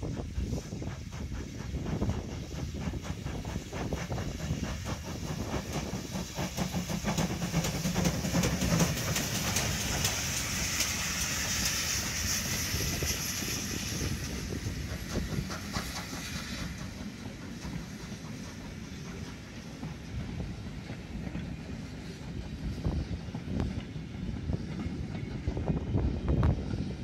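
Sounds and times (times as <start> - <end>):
steam hissing: 0.0 - 27.0
steam locomotive exhaust beats: 0.0 - 27.0
train wheels clattering on rails: 0.0 - 27.0.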